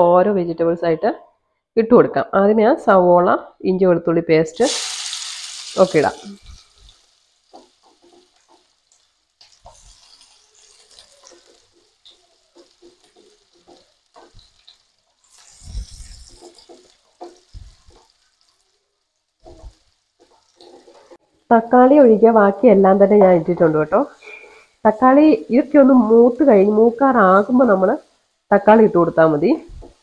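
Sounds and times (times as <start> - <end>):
onion sizzling in oil: 4.6 - 30.0.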